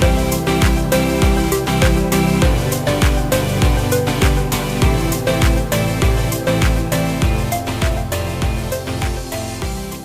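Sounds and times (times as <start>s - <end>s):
fast beat background music: 0.0s - 10.0s.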